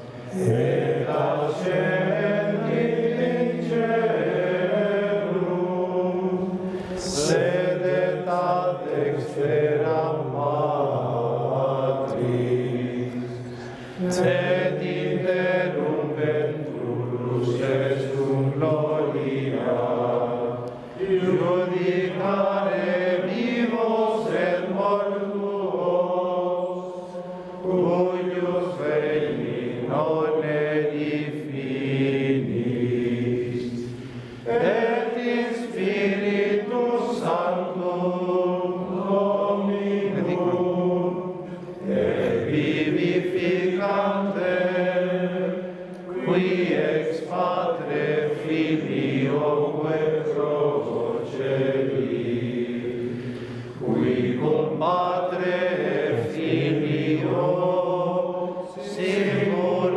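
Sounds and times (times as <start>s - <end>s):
men singing plainchant: 0.0s - 59.9s.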